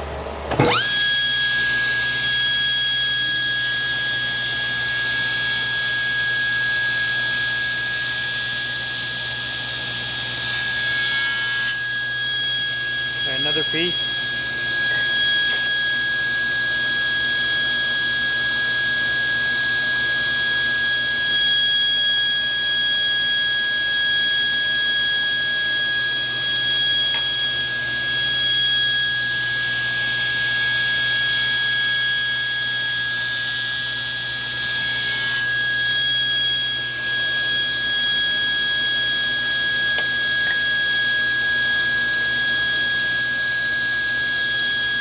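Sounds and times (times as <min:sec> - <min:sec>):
woodshop machinery whining: 0:00.0 - 0:45.0.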